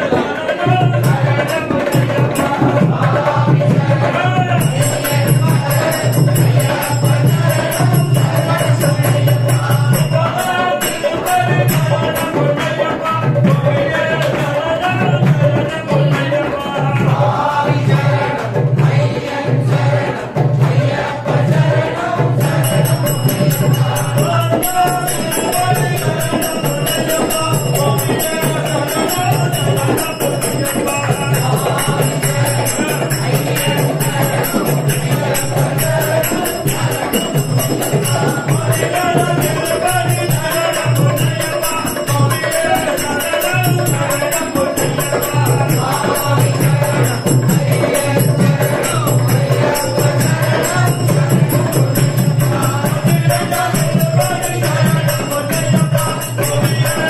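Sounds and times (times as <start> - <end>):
chanted devotional singing: 0.0 - 57.0
jingling percussion: 0.0 - 57.0
steady drum beat: 0.0 - 57.0.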